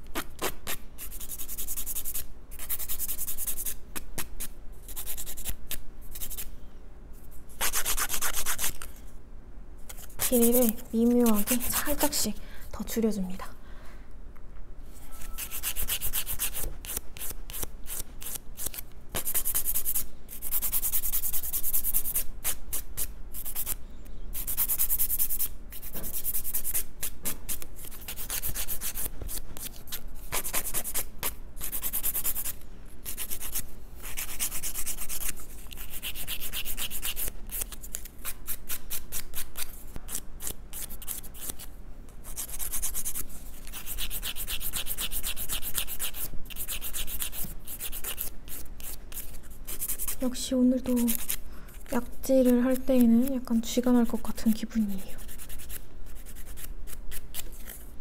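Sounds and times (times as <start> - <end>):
nail file rasping on fingernails: 0.1 - 6.5, 7.6 - 8.9, 9.9 - 12.2, 15.3 - 53.5, 54.4 - 57.9.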